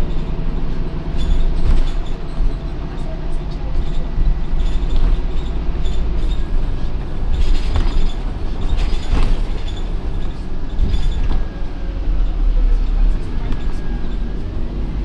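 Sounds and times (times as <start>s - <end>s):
bus engine low rumble: 0.0s - 15.0s.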